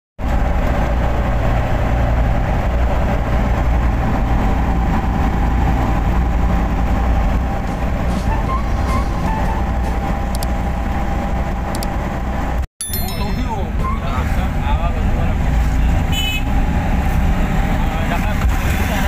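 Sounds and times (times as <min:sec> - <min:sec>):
vehicle engine and road rumble: 0:00.2 - 0:19.0.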